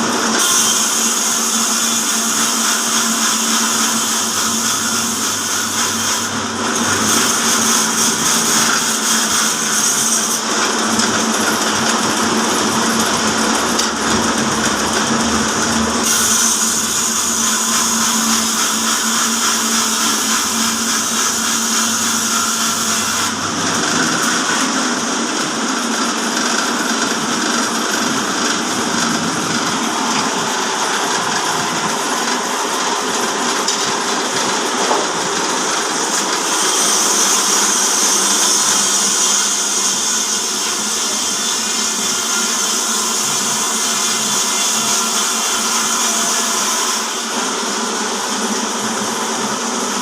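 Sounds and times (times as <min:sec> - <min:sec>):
sawmill running: 0:00.0 - 0:50.0.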